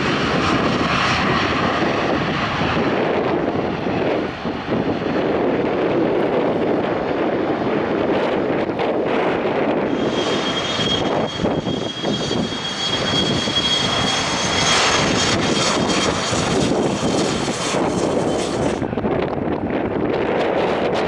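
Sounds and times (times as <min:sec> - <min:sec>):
jet engine whine: 0:00.0 - 0:21.0
wind rumbling on microphone: 0:00.0 - 0:21.0.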